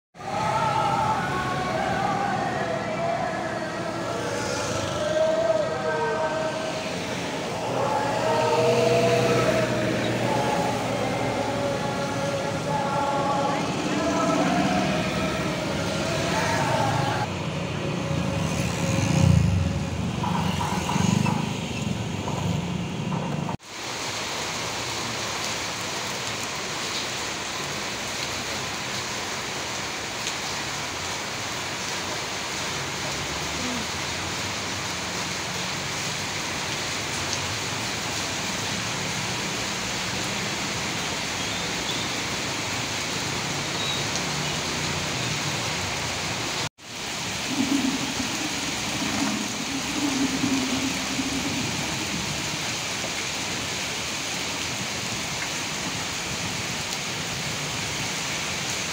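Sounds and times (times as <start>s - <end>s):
heavy rain pouring: 0.2s - 58.9s
vehicles driving on wet street: 0.2s - 58.9s.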